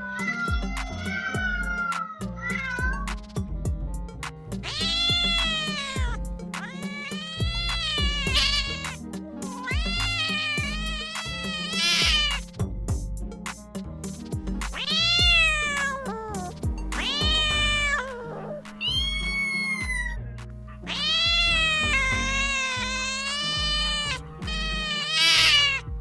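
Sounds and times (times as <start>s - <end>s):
cat meowing: 0.0s - 3.1s, 4.6s - 12.6s, 14.7s - 25.9s
background music: 0.0s - 26.0s.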